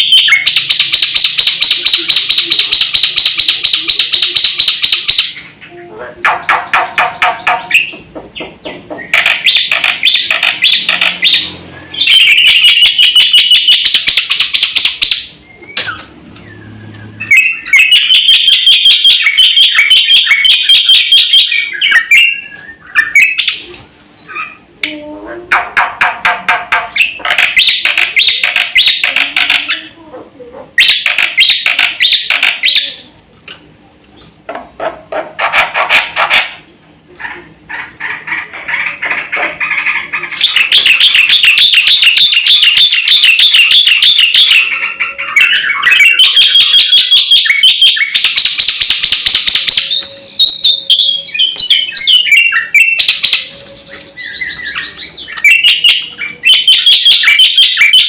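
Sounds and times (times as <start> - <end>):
starling singing chattering notes: 0.0 - 30.0, 30.7 - 33.2, 37.6 - 58.0.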